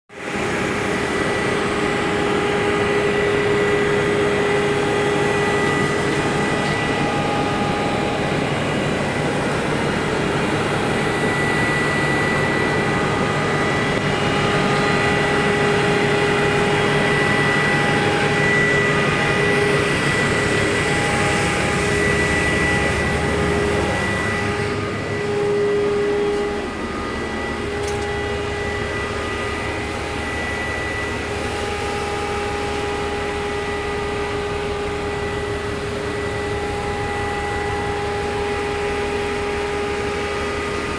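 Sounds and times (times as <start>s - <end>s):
heavy machinery drone: 0.1s - 40.9s
high steady whining tones: 0.2s - 40.9s.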